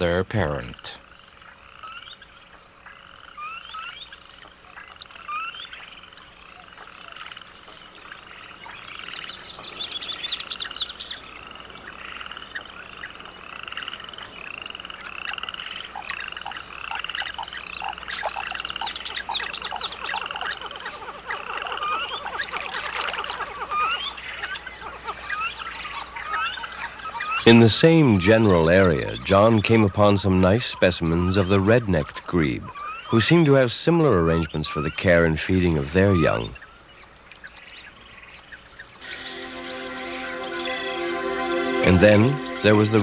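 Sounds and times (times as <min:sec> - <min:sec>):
chorus of animal chirps: 0:00.0 - 0:43.0.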